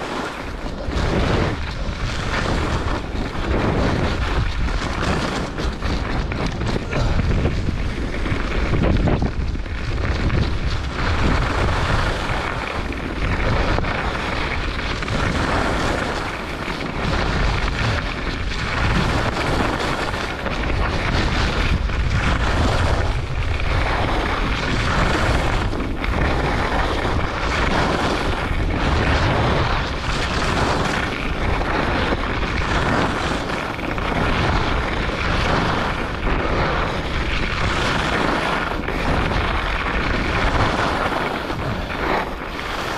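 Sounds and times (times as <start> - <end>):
skis scraping over snow: 0.0 - 42.9
wind buffeting microphone: 0.0 - 42.9.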